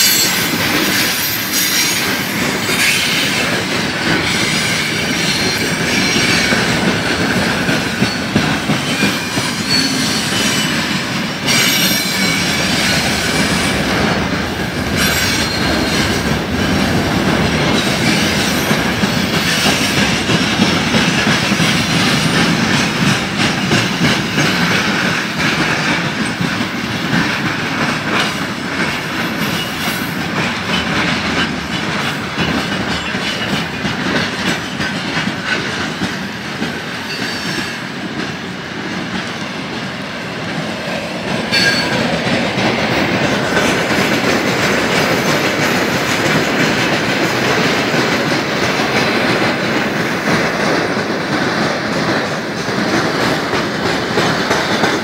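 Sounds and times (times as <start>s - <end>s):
freight train rumbling past: 0.0s - 55.0s
steel wheels clattering over rail joints: 0.0s - 55.0s.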